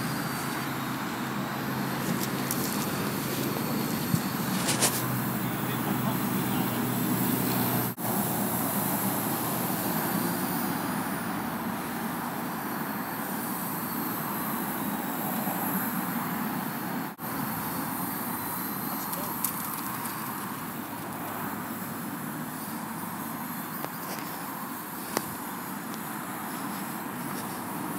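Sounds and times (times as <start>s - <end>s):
outdoor background noise: 0.0s - 27.9s
quadcopter rotors humming: 0.0s - 27.9s.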